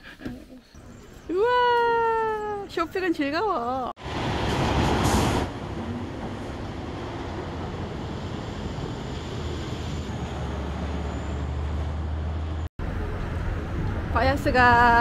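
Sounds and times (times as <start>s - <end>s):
street traffic noise: 2.7s - 15.0s.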